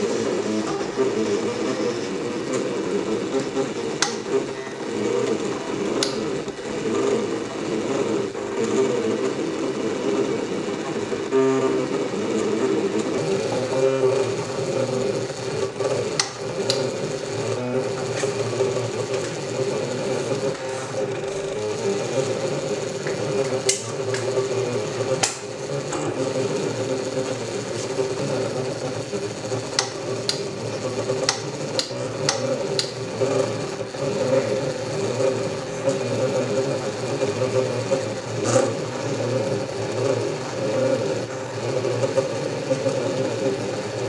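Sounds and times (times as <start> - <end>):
stepper motors whirring: 0.0 - 44.0.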